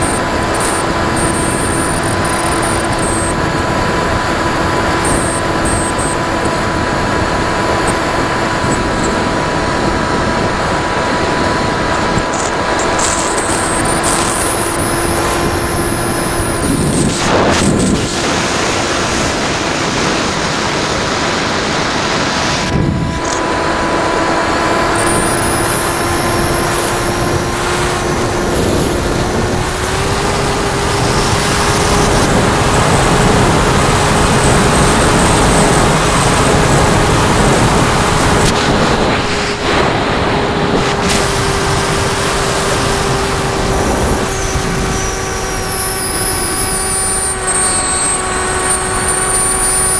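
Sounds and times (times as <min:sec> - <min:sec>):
model airplane motor and propeller: 0:00.0 - 0:49.9
wind rushing over microphone: 0:00.0 - 0:49.9.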